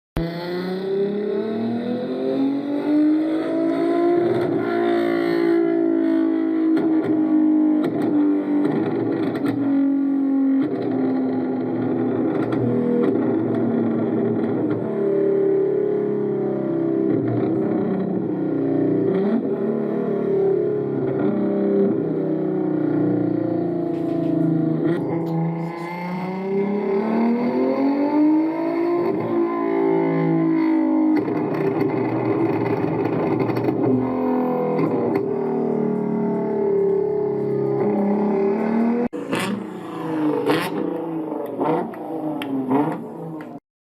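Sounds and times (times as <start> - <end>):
sports car engine revving: 0.2 - 43.6.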